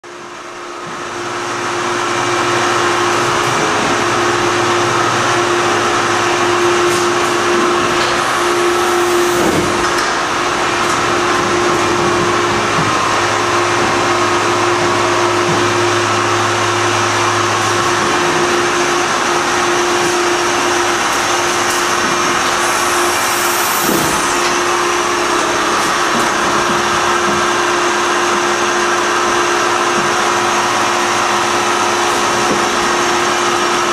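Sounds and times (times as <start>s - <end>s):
low machine drone: 0.0s - 33.9s
machine tool whirring: 2.2s - 33.9s.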